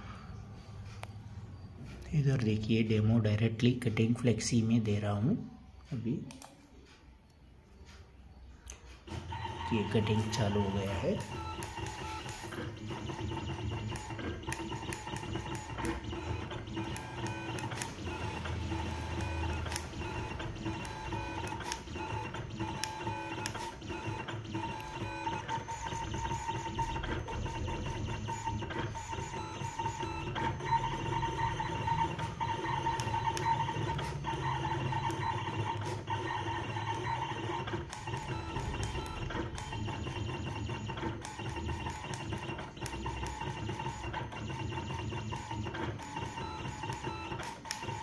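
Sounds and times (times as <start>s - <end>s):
cutting plotter motors whirring: 8.9s - 48.0s.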